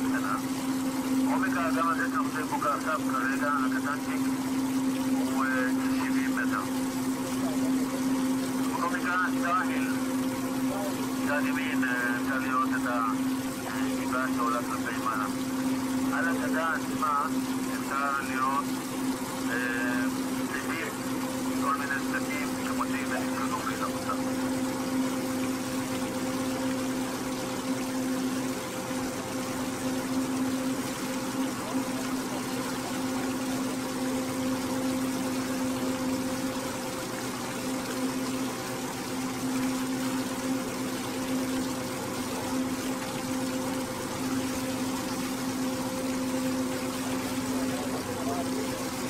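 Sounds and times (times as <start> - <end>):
boat engine droning: 0.0 - 49.0
water and wind hiss: 0.0 - 49.0.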